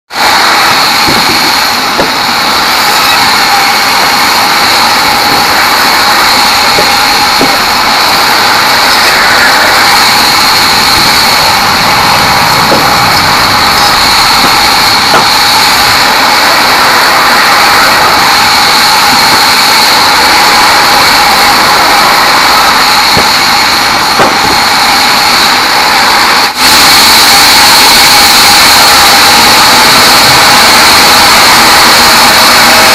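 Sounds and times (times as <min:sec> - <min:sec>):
band saw whining through log: 0:00.1 - 0:32.9.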